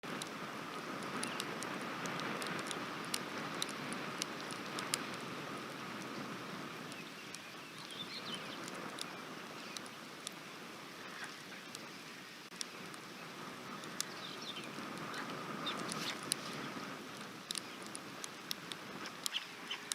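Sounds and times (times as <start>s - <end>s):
raindrops ticking: 0.0s - 19.9s
steady rain: 0.0s - 19.9s.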